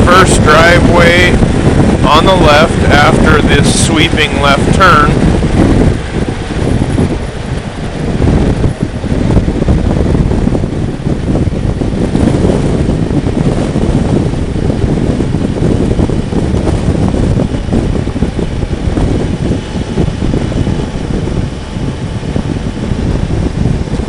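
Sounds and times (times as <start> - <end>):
motorcycle engine and road noise: 0.0 - 24.0
wind buffeting microphone: 0.0 - 24.0.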